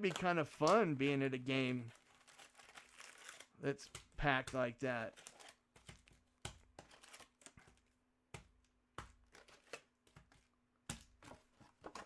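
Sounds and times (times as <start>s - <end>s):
trading cards clicking and crinkling: 0.0s - 12.0s.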